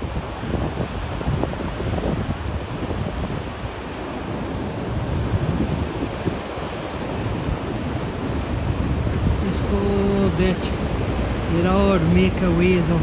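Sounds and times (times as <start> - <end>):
floodwater rushing: 0.0 - 13.0
wind buffeting microphone: 0.0 - 13.0.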